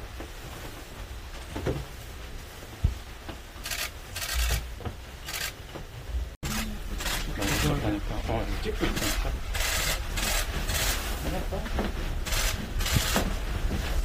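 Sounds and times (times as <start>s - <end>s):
cloths and plastic coveralls rustling: 0.0s - 14.0s.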